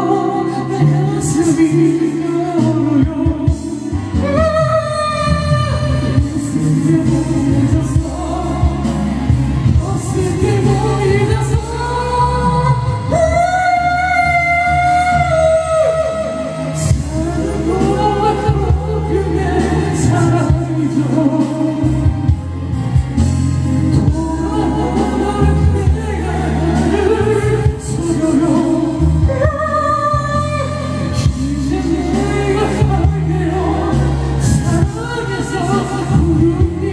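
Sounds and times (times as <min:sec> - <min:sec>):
heavy bass: 0:00.0 - 0:36.9
pop song with sung vocal: 0:00.0 - 0:36.9.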